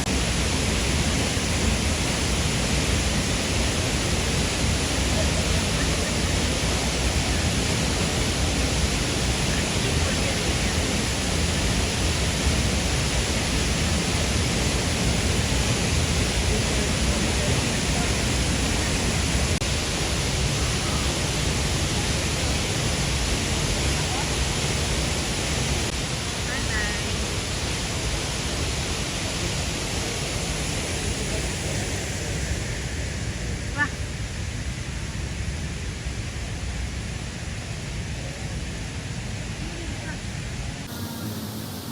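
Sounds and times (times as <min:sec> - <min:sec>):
waterfall crashing: 0:00.0 - 0:41.9.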